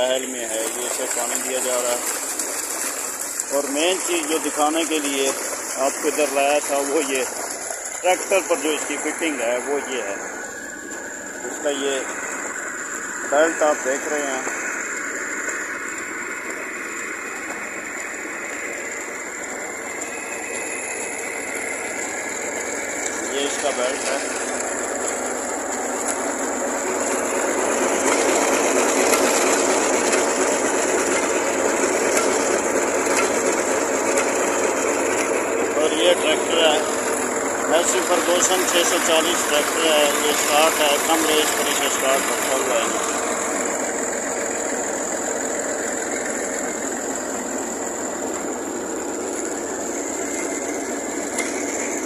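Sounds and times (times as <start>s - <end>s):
diesel engine at low revs: 0.0s - 52.0s
drive belt rasping: 0.0s - 52.0s.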